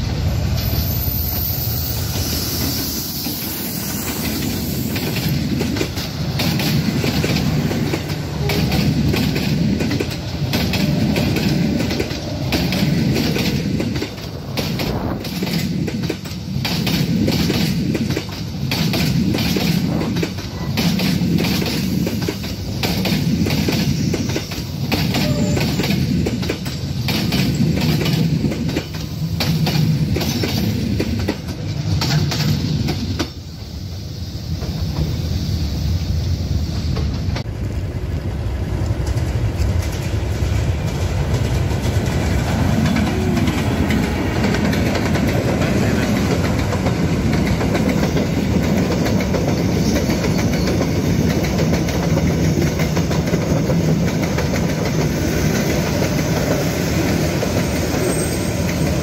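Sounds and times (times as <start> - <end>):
passenger train passing: 0.0 - 59.0.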